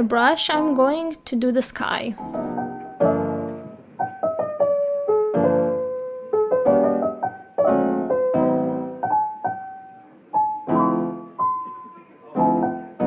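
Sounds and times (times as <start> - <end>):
gentle piano music: 2.1 - 13.0.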